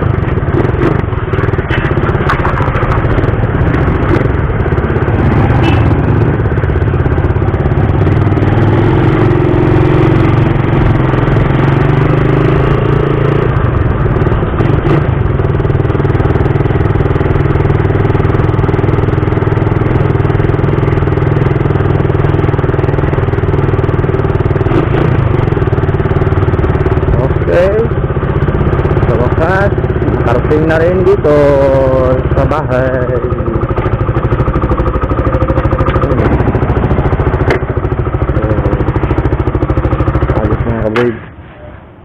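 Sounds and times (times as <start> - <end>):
motorcycle engine running: 0.0 - 41.4.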